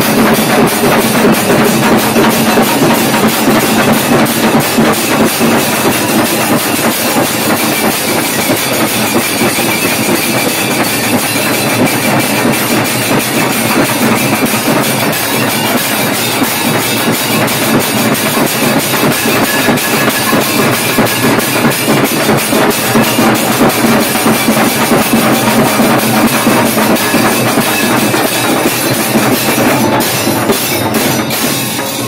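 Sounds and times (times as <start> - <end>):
barrel drums beaten with sticks: 0.0 - 32.0
brass cymbals clashing: 0.0 - 32.0.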